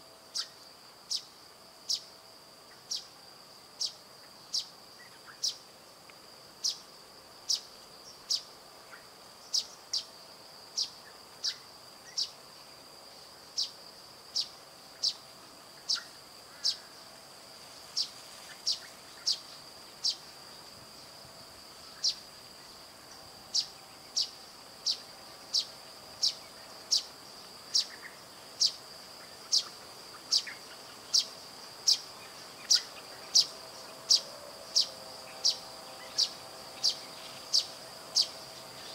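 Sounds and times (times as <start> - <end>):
high-pitched insect drone: 7.5 - 38.9.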